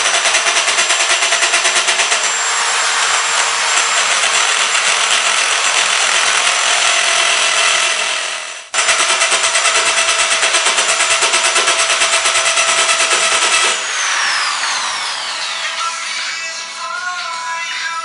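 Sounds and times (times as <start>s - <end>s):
power drill grinding glass: 0.0s - 17.3s.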